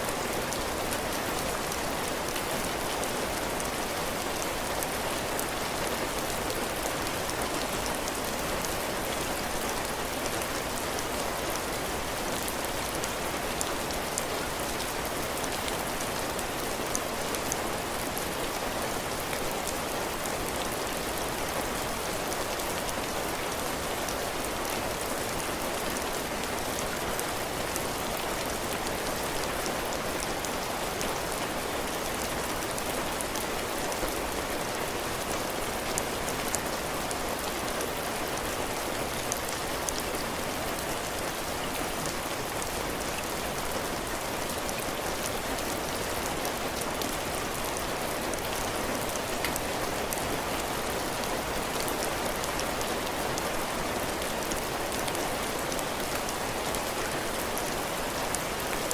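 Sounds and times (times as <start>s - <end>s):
heavy rain pattering on roof: 0.0s - 58.9s.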